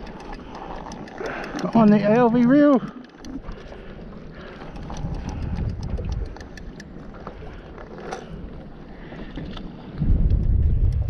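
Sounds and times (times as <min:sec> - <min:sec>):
water slapping boat hull: 0:00.0 - 0:10.4
faint ticks: 0:00.0 - 0:11.0
wind rumbling on microphone: 0:00.0 - 0:11.0.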